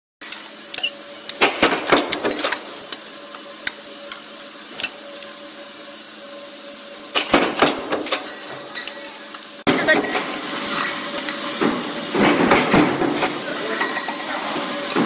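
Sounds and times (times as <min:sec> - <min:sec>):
power press humming: 0:00.2 - 0:15.0.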